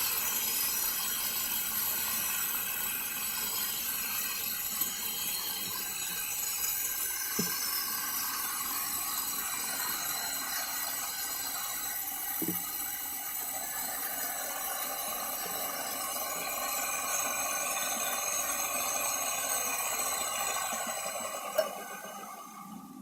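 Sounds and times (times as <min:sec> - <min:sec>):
belt grinder hiss and whine: 0:00.0 - 0:23.0.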